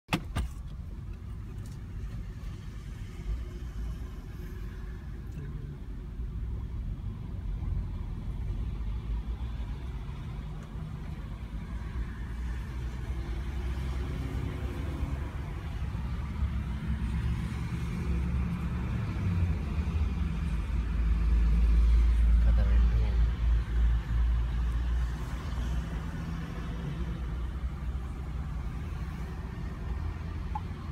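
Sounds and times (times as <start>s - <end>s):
car engine rumble: 0.1s - 30.9s
road noise: 0.1s - 30.9s.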